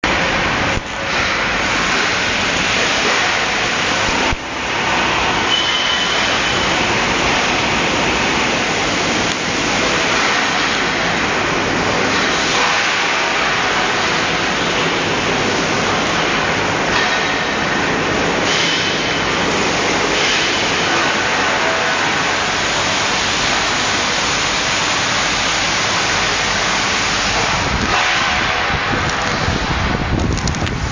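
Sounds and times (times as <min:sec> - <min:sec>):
air conditioner rushing: 0:00.0 - 0:30.9.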